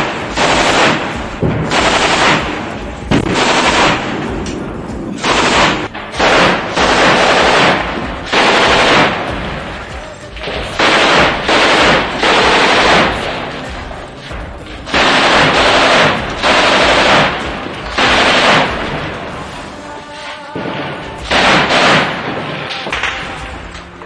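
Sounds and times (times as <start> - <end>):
machine gun bursts echoing: 0.0 - 24.0.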